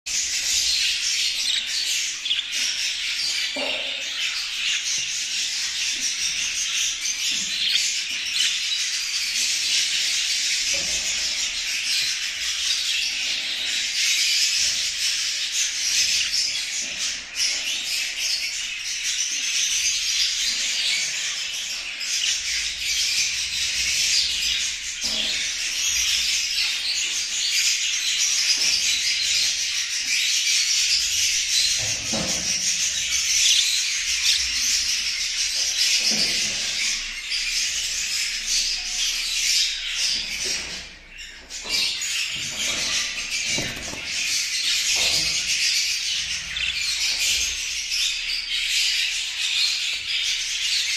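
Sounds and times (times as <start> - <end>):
budgerigar chatter: 0.1 - 50.9.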